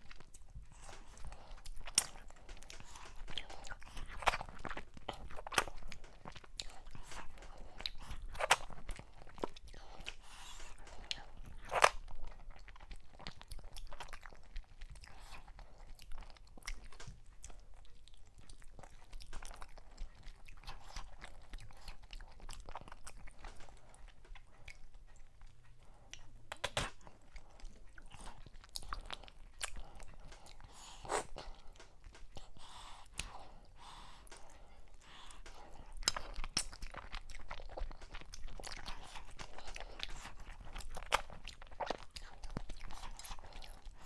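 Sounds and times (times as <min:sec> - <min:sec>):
close-miked chewing: 0:00.0 - 0:44.0.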